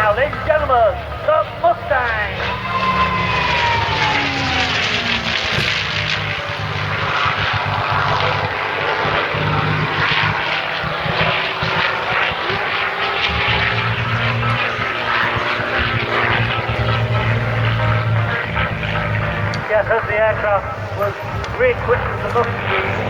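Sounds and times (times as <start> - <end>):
propeller aircraft engine: 0.0 - 23.0.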